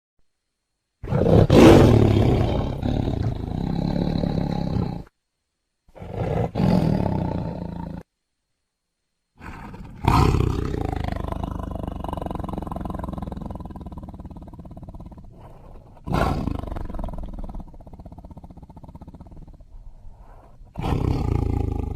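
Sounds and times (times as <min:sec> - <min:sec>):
tiger roaring: 0:01.0 - 0:05.1, 0:05.9 - 0:08.0, 0:09.4 - 0:21.9.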